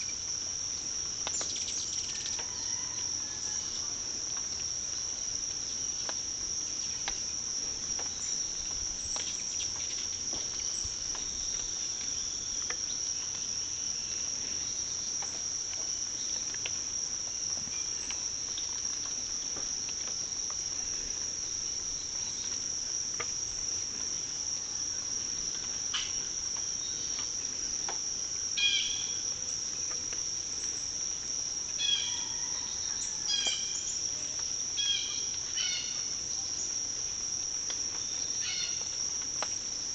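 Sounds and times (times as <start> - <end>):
insect chirping: 0.0 - 39.9
insect drone: 0.0 - 39.9.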